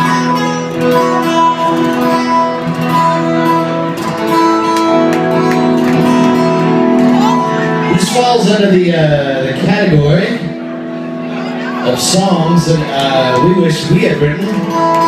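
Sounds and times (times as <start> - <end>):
amplified guitar ringing chords: 0.0 - 15.0.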